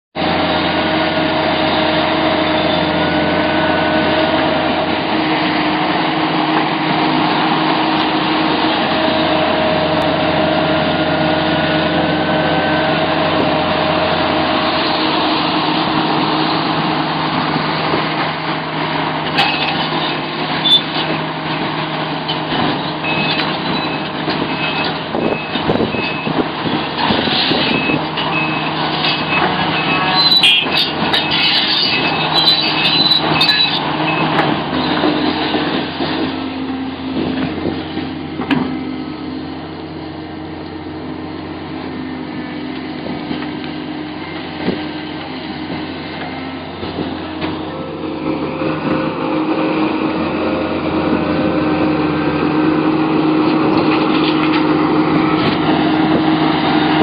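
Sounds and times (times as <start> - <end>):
excavator diesel engine: 0.1 - 57.0.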